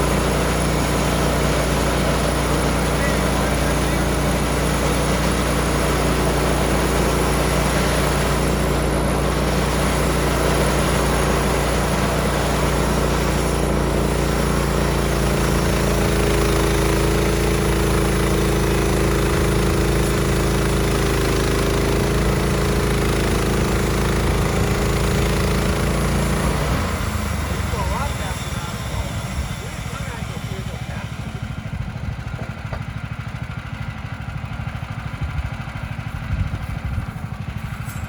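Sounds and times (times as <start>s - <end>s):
small gas engine running: 0.0s - 38.0s.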